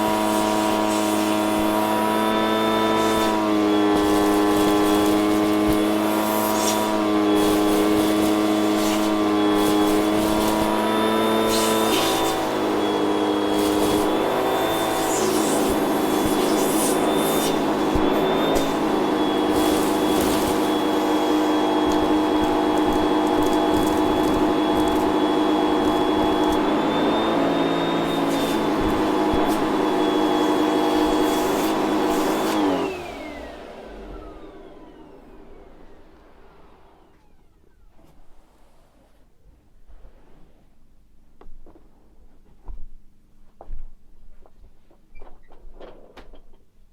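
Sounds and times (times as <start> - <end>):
motor whining down: 0.0 - 38.1
vacuum cleaner motor whine: 0.0 - 38.9.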